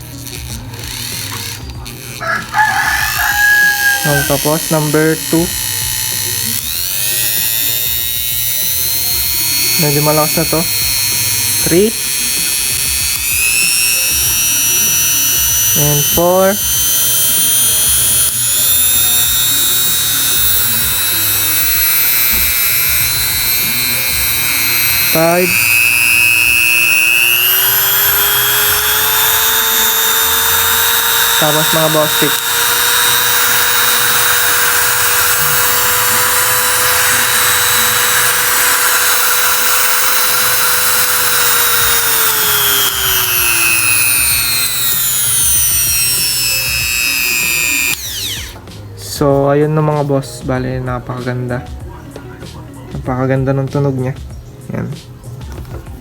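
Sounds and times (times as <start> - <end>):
rotary tool motor whine: 0.0 - 48.7.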